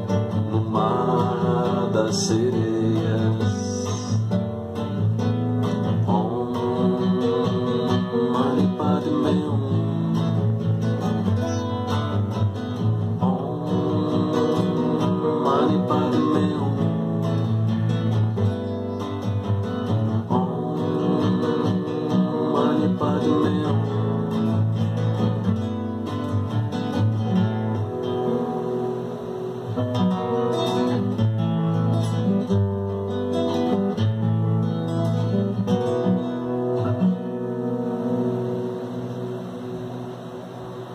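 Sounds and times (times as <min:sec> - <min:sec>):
classical guitar chords: 0:00.0 - 0:40.9.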